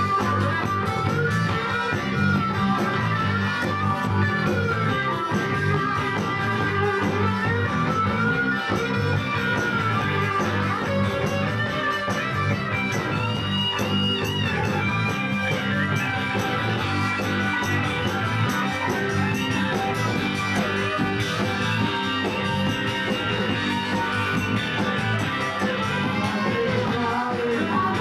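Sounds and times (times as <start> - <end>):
electric guitar lead line: 0.0 - 28.0
live band playing: 0.0 - 28.0.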